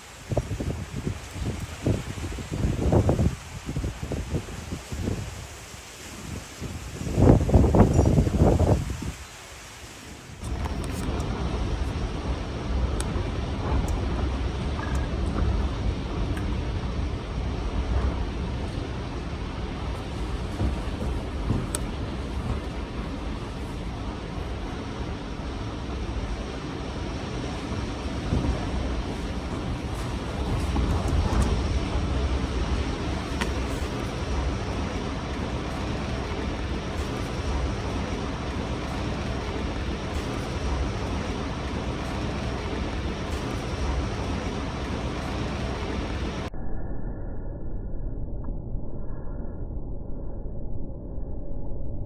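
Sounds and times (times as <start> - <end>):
wind buffeting microphone: 0.0 - 9.4, 10.1 - 46.5
gusty wind blowing: 0.0 - 46.5.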